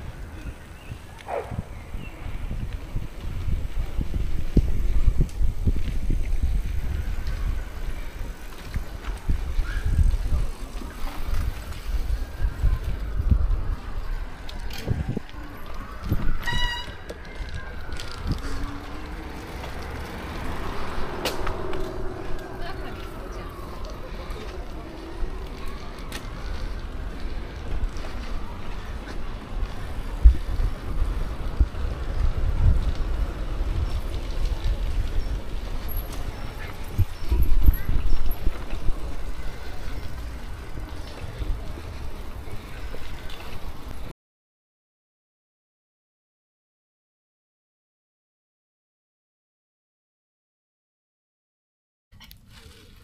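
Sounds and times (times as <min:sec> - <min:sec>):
wind buffeting microphone: 0:00.0 - 0:44.1.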